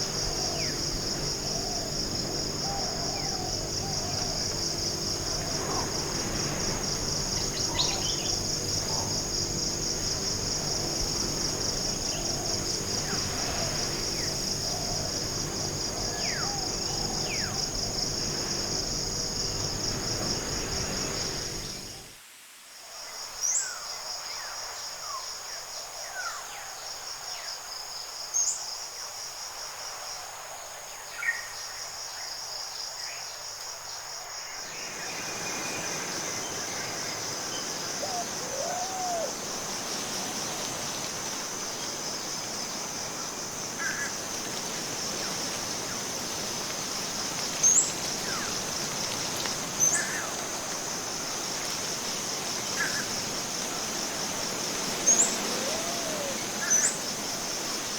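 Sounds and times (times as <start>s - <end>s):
pulsing insect chorus: 0.0s - 22.2s, 22.9s - 57.9s.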